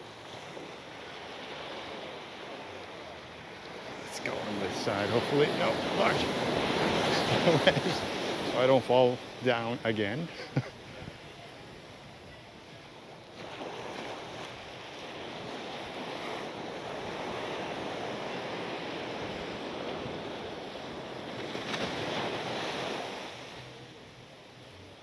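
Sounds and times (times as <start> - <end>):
surf washing on beach: 0.0 - 25.0.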